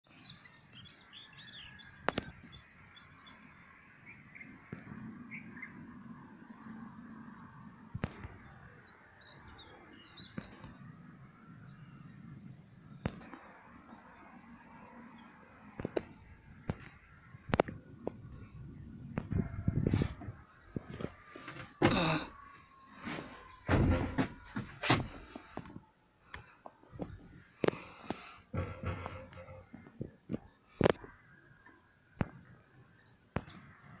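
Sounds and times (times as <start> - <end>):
faint outdoor background noise: 0.0 - 34.0
small birds chirping: 0.0 - 34.0.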